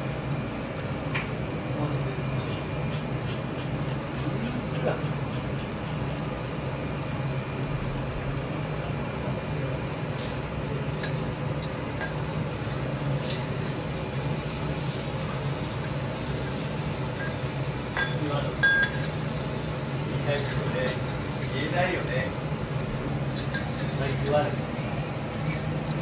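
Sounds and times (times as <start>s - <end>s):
steak sizzling on a griddle: 0.0s - 26.0s.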